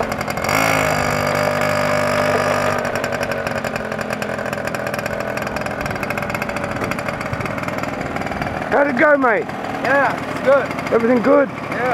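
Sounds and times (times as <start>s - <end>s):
dune buggy engine running: 0.0s - 11.9s.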